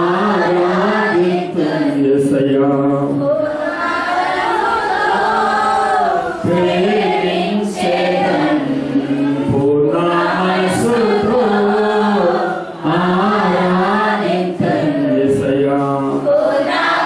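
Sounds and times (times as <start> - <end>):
man singing into a microphone: 0.0 - 3.5, 6.1 - 16.5
voices singing a slow chant: 0.0 - 17.0.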